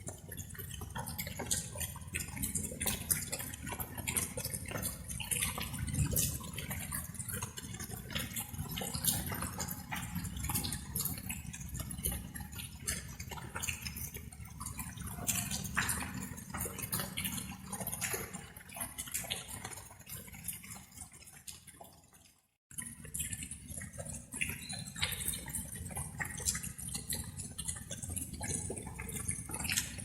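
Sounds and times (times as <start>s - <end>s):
rain drops dripping: 0.0s - 30.0s.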